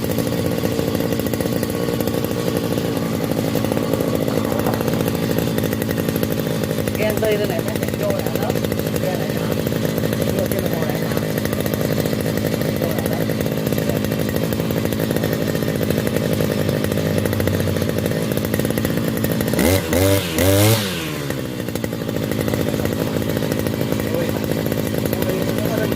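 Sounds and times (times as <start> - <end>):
brush cutter engine idling and revving: 0.0 - 25.9.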